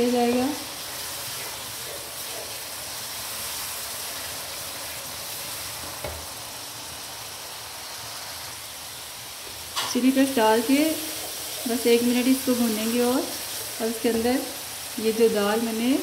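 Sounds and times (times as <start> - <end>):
masala sizzling in oil: 0.0 - 16.0.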